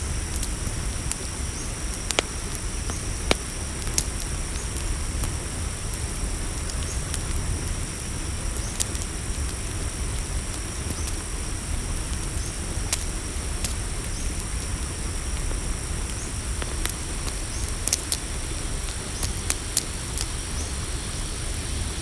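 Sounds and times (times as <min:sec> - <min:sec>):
crickets chirring: 0:00.0 - 0:22.0
low steady rumble: 0:00.0 - 0:22.0
campfire crackling and popping: 0:00.1 - 0:22.0.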